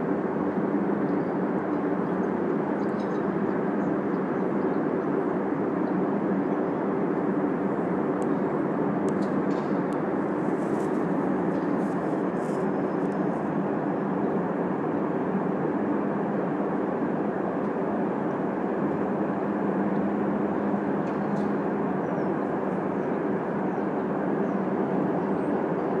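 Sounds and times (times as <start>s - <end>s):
distant aircraft engine roar: 0.0s - 26.0s.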